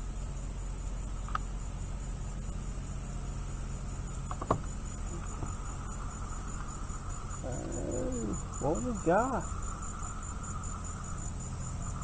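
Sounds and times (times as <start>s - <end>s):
insects chirping: 0.0s - 12.0s
low steady hum: 0.0s - 12.0s.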